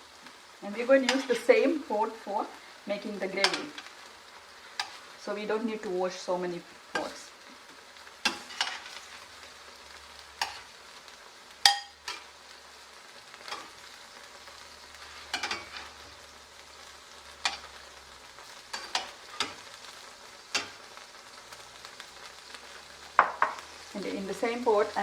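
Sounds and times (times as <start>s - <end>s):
oil sizzling in frying pan: 0.0s - 25.0s.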